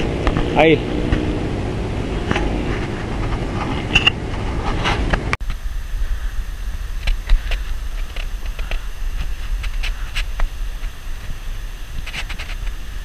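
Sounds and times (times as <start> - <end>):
bicycle road noise: 0.0 - 13.0
wind rumble: 0.0 - 13.0.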